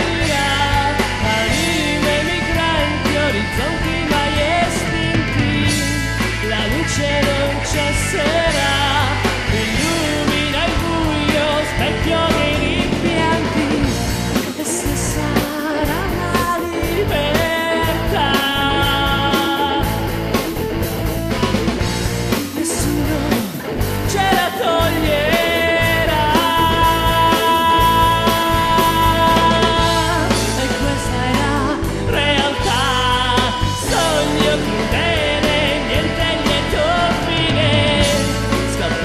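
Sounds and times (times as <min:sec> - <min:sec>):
rock song with full band: 0:00.0 - 0:39.0.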